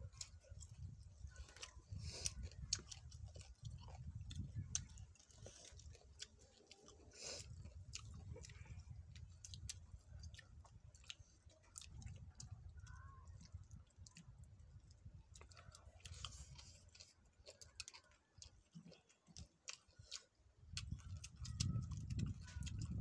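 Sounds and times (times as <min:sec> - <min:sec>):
faint chewing: 0:00.0 - 0:23.0.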